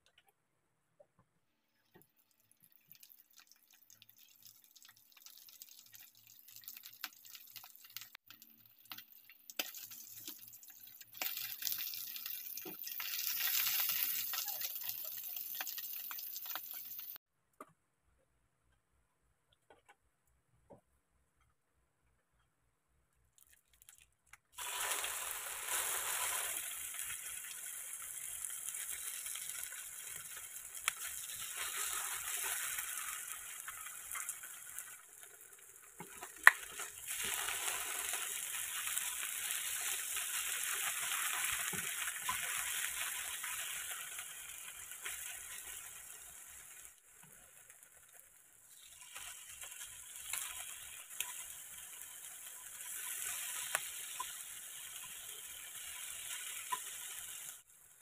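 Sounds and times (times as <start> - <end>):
meat sizzling in hot oil: 1.9 - 17.2, 24.6 - 58.0.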